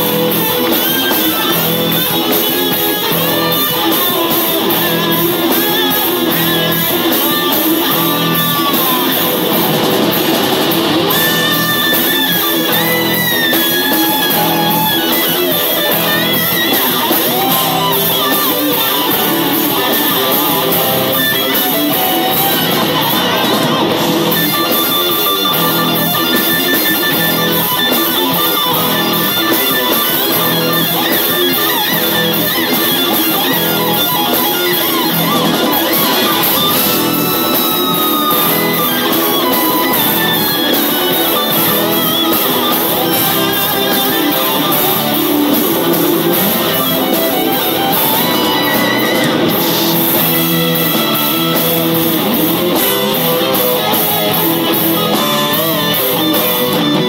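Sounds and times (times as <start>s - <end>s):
lead electric guitar: 0.0s - 57.0s
rock band playing: 0.0s - 57.0s.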